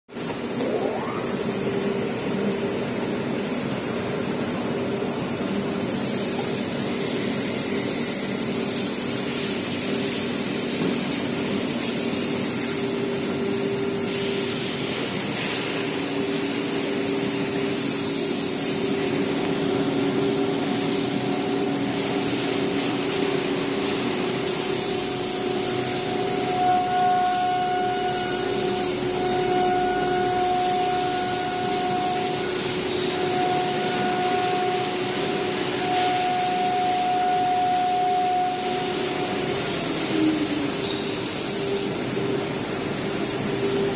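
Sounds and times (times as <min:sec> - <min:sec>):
high machine whine: 0:00.1 - 0:43.9
cnc router machine drone: 0:00.2 - 0:43.9.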